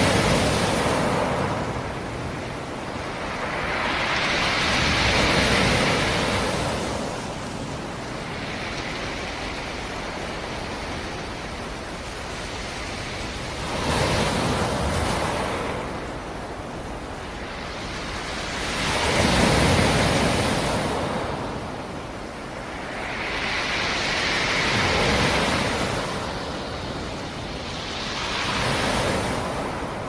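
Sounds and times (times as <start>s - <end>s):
waves breaking: 0.0s - 30.0s
waves washing: 0.0s - 30.0s.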